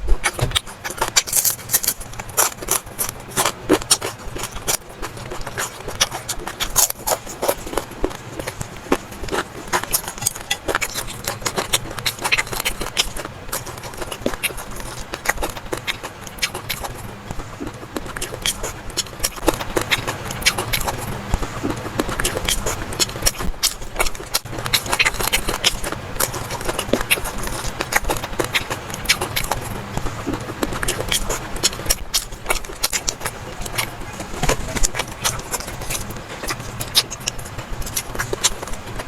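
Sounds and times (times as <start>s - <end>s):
steady low hum: 0.0s - 39.0s
chewing and wet mouth clicks: 0.2s - 39.0s.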